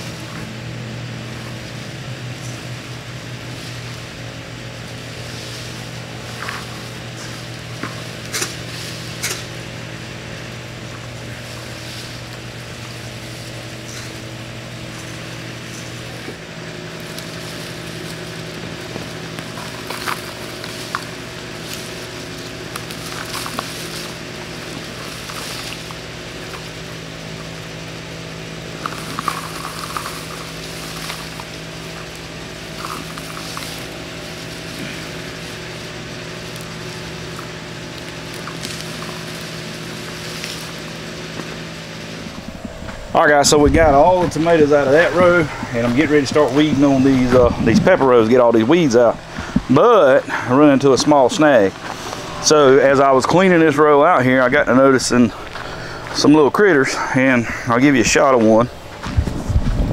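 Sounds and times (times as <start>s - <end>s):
rustle of vines being pulled: 0.0s - 59.9s
steady mechanical hum: 0.0s - 59.9s.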